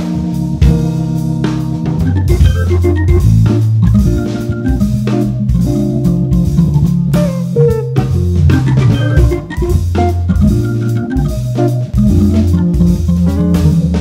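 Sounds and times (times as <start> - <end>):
drum kit hits: 0.0 - 14.0
guitar: 0.0 - 14.0
low bass notes: 0.0 - 14.0
organ chords: 0.0 - 14.0.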